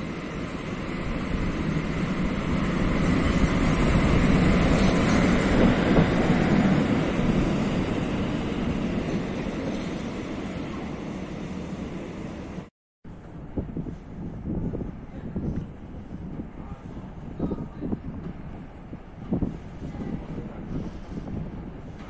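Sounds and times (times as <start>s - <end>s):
locomotive wheel and rail rumble: 0.0s - 22.0s.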